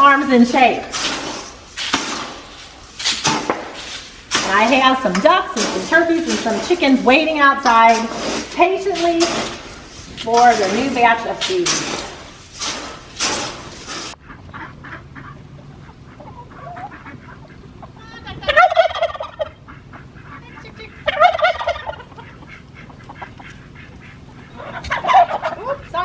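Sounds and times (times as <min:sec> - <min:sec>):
turkey gobbling: 0:00.0 - 0:26.0.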